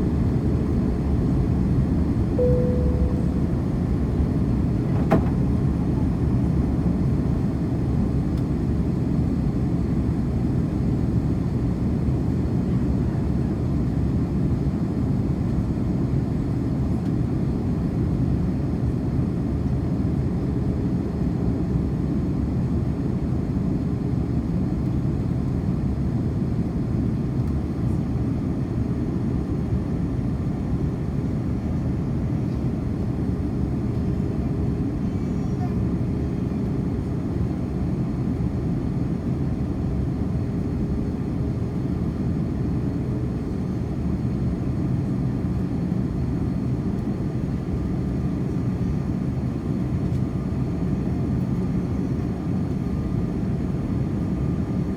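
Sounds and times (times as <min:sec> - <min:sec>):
aircraft cabin engine drone: 0:00.0 - 0:54.9.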